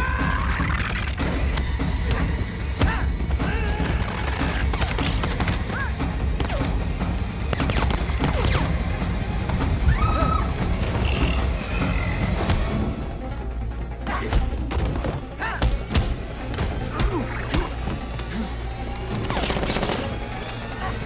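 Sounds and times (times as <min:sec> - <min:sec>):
driving action music: 0:00.0 - 0:21.0.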